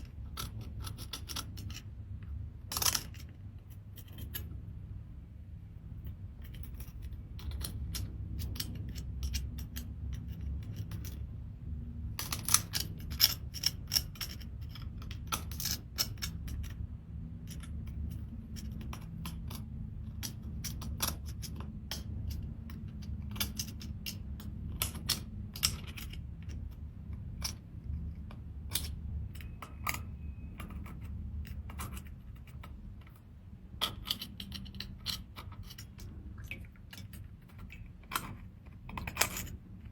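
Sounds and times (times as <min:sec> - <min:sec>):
seashells clicking and scraping: 0:00.0 - 0:04.8, 0:06.1 - 0:39.9
steady low hum: 0:00.0 - 0:39.9.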